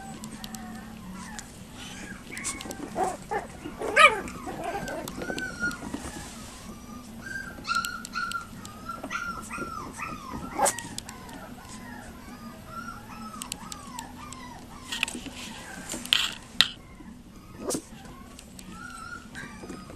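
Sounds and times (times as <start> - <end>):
puppies whining and yipping: 0.0 - 19.9
puppy yelp: 0.0 - 19.9.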